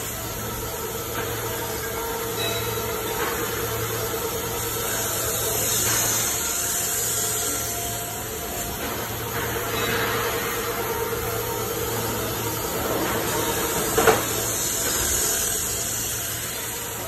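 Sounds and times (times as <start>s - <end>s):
machinery hum and hiss: 0.0s - 17.0s.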